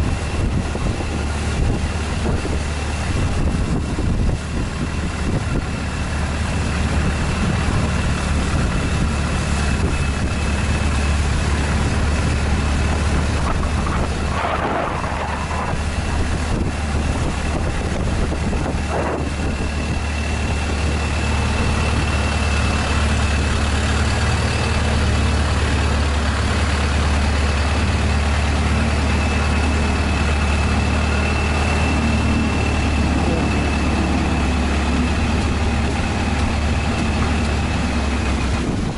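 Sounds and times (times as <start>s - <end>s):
boat engine droning: 0.0s - 38.9s
wind and water rushing: 0.0s - 38.9s.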